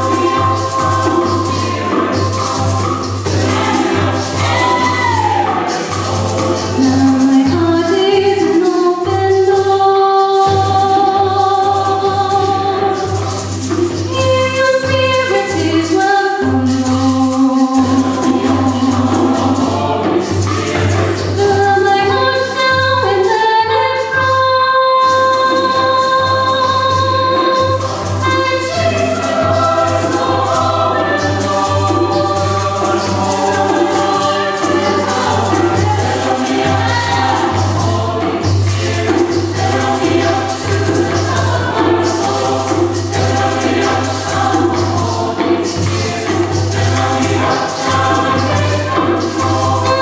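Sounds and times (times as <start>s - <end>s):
choir singing in chords: 0.0s - 23.8s, 25.0s - 50.0s.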